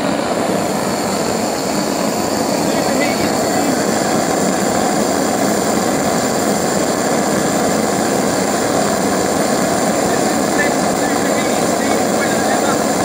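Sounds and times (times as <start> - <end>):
loud combustion roar: 0.0 - 13.0.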